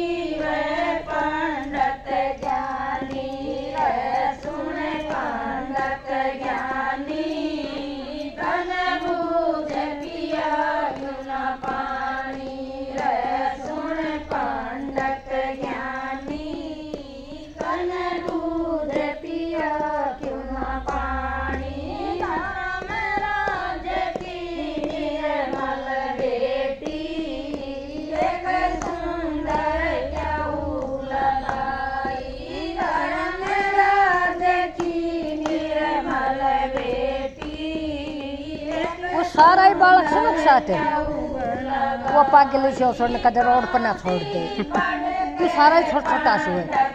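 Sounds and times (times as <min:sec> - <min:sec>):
women singing devotional song: 0:00.0 - 0:46.9.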